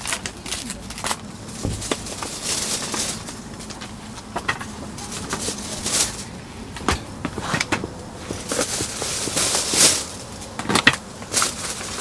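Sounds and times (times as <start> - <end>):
plastic wrap crinkling: 0.0 - 6.4, 8.2 - 12.0.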